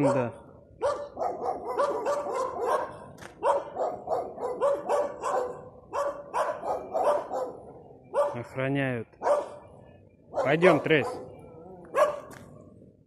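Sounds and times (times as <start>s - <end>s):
dogs barking: 0.0s - 8.5s, 9.1s - 12.5s.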